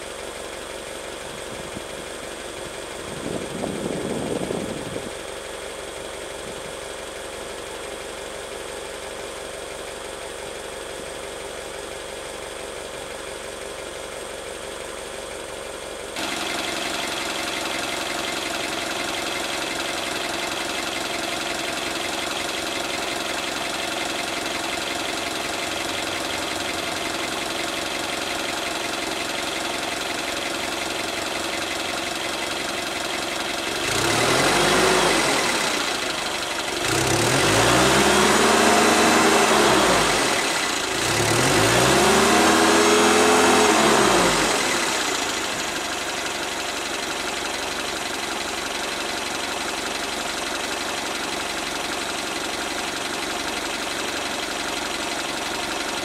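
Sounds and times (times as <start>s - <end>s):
forklift engine idling and revving: 0.0s - 56.0s.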